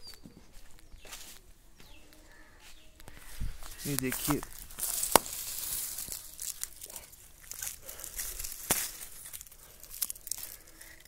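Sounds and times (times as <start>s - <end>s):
dry leaves and stems rustling: 0.0s - 11.0s.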